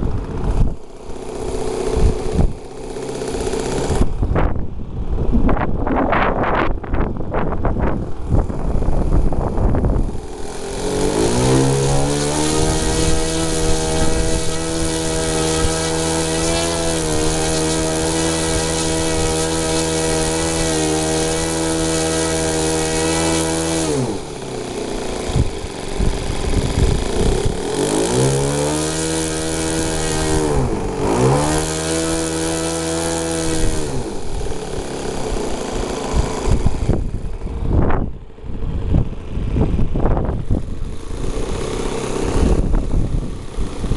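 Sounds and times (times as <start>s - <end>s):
model airplane engine revving: 0.0s - 43.9s.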